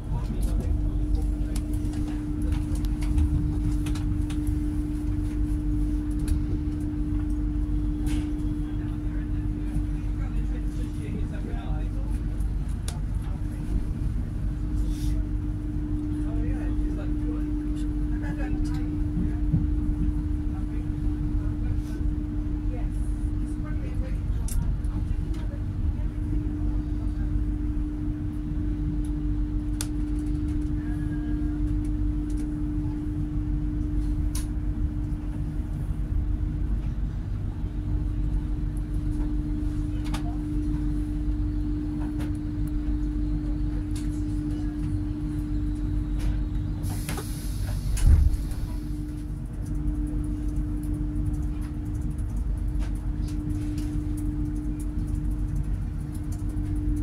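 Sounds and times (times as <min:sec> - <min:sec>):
train cabin rumble and hum: 0:00.0 - 0:57.0.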